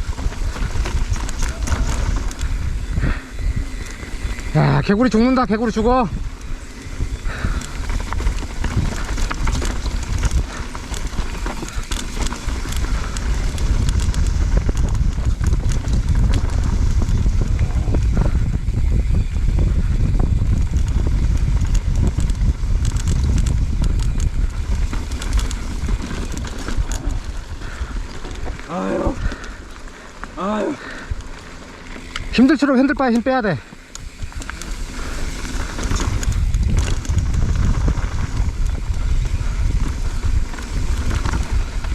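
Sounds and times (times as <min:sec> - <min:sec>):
bike rattling and clicking: 0:00.0 - 0:41.9
wind and ground rumble: 0:00.0 - 0:41.9.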